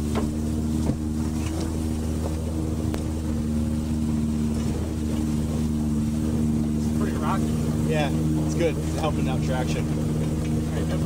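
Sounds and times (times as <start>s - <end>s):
car engine pulling under load: 0.0s - 11.0s.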